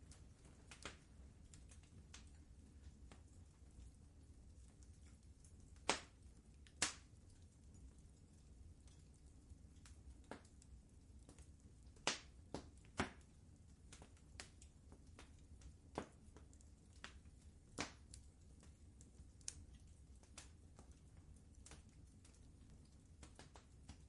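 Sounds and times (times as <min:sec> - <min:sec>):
faint low rumble: 0:00.0 - 0:24.0
wood fire crackling: 0:00.0 - 0:24.0.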